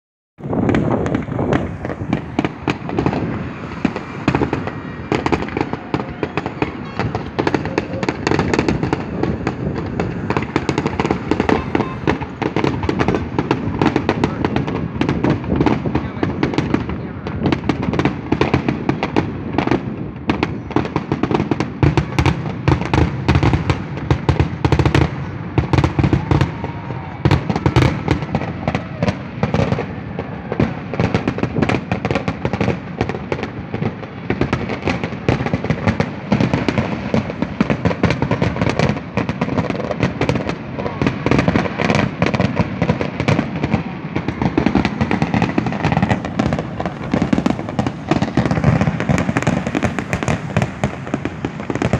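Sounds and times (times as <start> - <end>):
fireworks bangs and crackles: 0.4 - 51.9.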